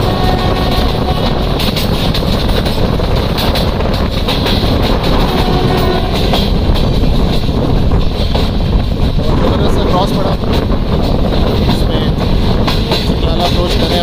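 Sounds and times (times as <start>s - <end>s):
passing train rumble: 0.0s - 14.0s
steel wheels clattering on rails: 0.0s - 14.0s
train running noise: 0.0s - 14.0s.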